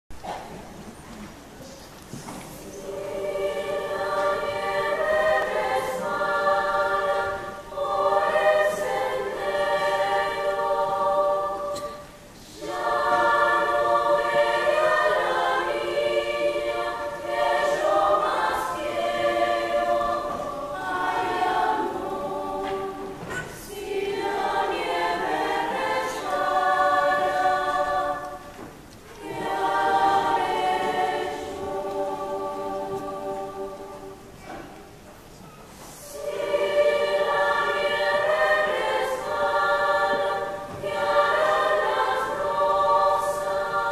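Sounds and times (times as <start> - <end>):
children's choir singing: 1.5 - 43.9.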